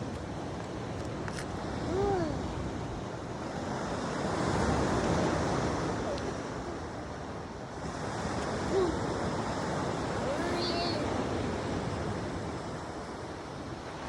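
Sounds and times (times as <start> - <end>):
sea surf on pebble beach: 0.0 - 14.0.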